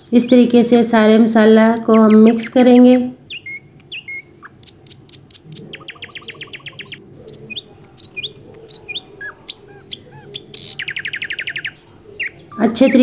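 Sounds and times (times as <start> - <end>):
bird trill: 0.0 - 0.5, 1.5 - 13.0
small birds chirping: 0.0 - 13.0.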